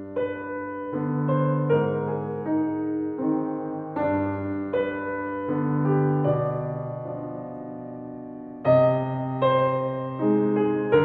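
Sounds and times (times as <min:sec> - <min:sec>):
solo piano melody: 0:00.0 - 0:11.0.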